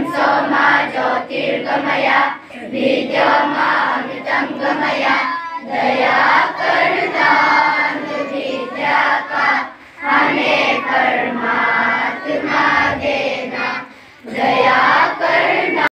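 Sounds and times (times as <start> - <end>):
children singing a prayer in unison: 0.0 - 15.9.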